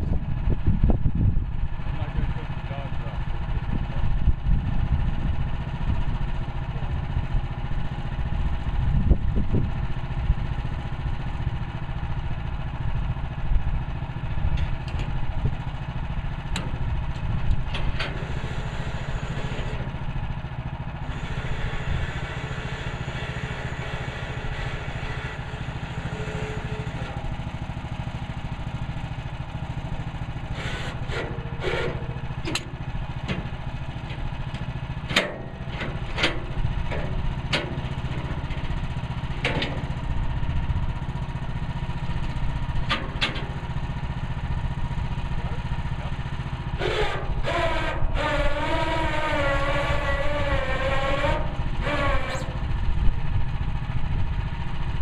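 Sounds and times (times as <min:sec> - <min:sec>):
gasoline engine running: 0:00.0 - 0:55.0.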